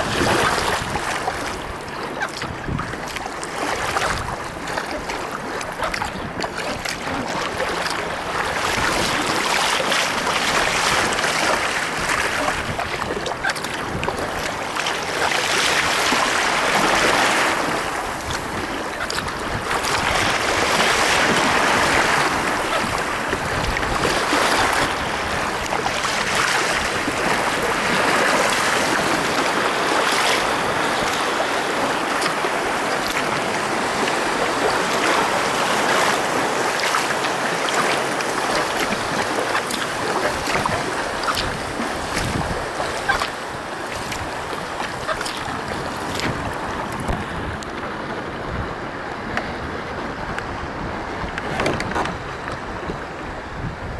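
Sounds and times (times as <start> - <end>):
wind buffeting microphone: 0.0 - 37.5, 38.2 - 53.9
water splashing against kayak hull: 0.0 - 53.9.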